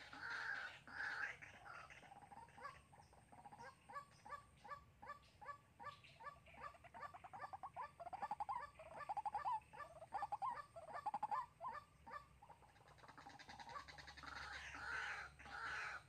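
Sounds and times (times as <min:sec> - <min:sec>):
bird calling rapid repeated notes: 0:00.0 - 0:16.0.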